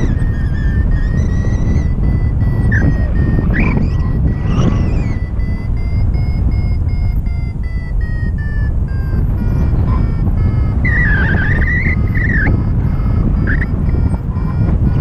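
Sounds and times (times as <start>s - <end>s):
variometer beeping: 0.0s - 15.0s
wavering tone: 0.0s - 15.0s
wind rushing on microphone: 0.0s - 15.0s.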